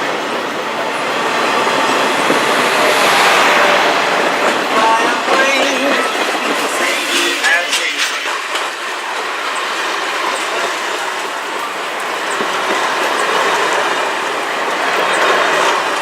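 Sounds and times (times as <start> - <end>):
train wheels on track: 0.0 - 16.0.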